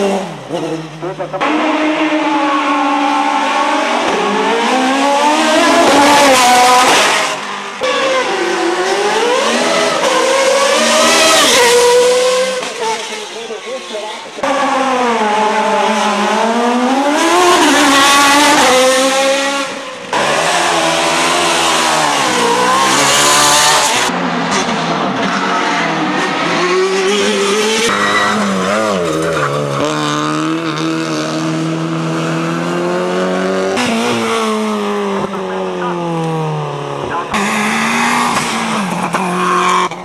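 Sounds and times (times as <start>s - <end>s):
racing car engines revving: 0.0s - 40.0s.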